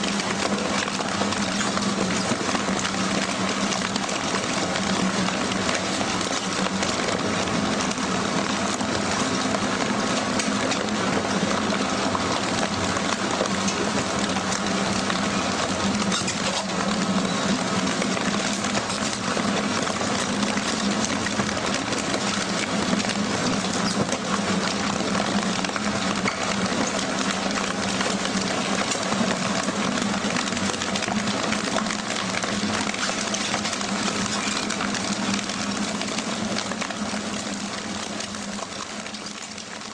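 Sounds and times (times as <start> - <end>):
cardboard ripping in shredder: 0.0 - 39.9
shredder drive hum: 0.0 - 39.9.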